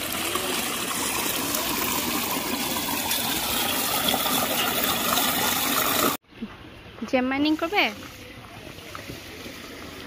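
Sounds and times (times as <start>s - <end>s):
water running through a sluice: 0.0s - 6.2s, 7.5s - 10.0s.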